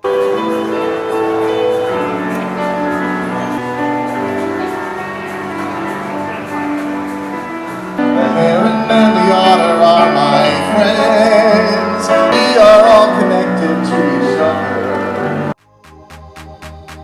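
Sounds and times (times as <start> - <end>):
song with sung melody: 0.0 - 17.0.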